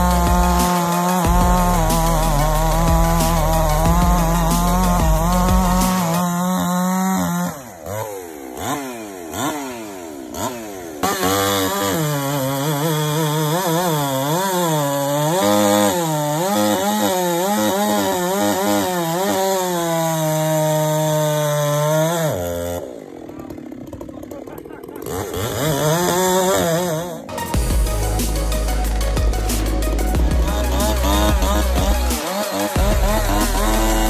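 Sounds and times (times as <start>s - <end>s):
chainsaws cutting log: 0.0s - 34.0s.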